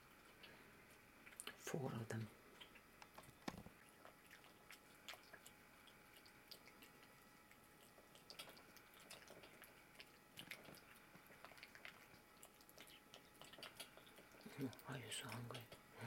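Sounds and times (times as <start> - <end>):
cat chewing and licking wet food: 0.0 - 16.0.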